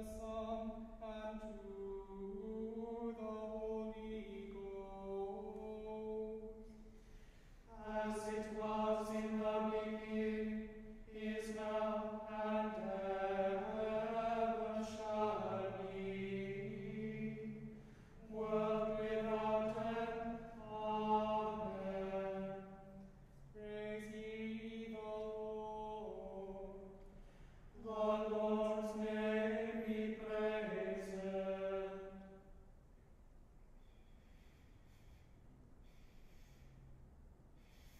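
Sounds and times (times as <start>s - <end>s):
small choir chanting in unison: 0.0s - 6.9s, 7.5s - 32.6s.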